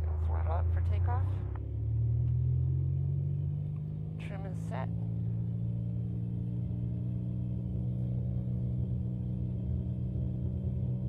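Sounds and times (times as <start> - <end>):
propeller airplane engine droning: 0.0 - 11.0.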